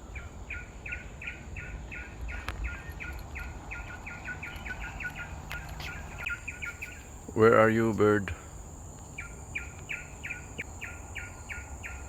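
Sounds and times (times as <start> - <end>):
faint high insect whine: 0.0 - 12.0.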